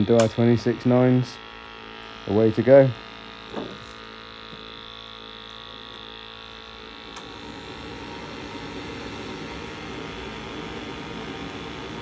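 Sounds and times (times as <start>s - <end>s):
boiler fan and burner rushing: 0.0s - 12.0s
boiler humming: 0.0s - 12.0s.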